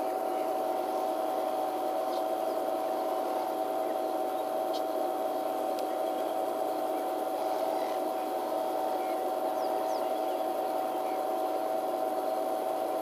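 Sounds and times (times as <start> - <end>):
mid-pitched hum: 0.0 - 13.0.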